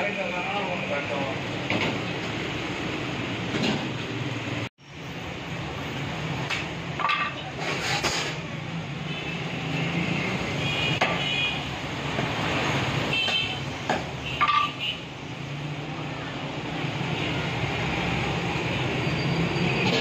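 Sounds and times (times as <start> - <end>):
passing vehicle engines: 0.2 - 14.2, 15.1 - 20.0.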